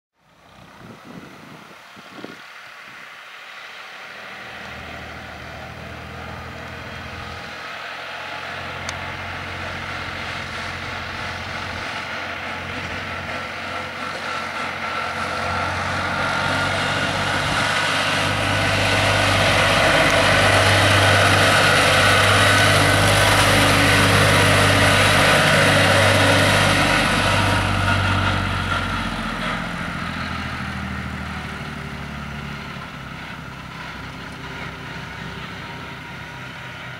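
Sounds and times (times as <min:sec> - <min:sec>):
tractor diesel engine running: 0:00.2 - 0:36.9.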